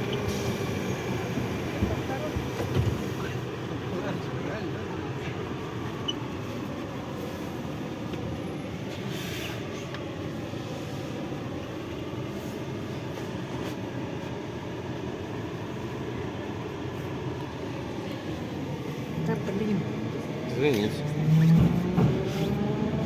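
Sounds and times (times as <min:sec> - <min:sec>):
metro train rumble from inside: 0:00.0 - 0:23.0.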